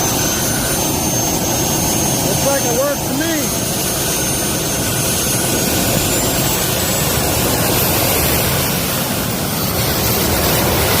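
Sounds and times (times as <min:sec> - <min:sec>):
high-pitched engine whine: 0:00.0 - 0:11.0
jet engine running: 0:00.0 - 0:11.0.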